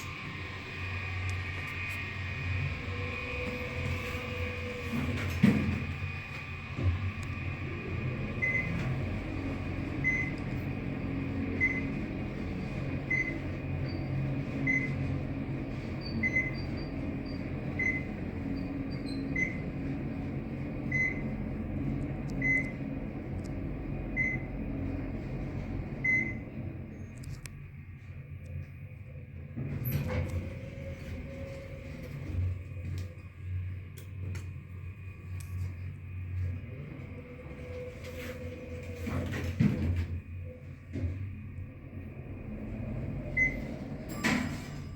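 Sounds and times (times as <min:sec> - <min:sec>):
elevator hum: 0:00.0 - 0:44.9.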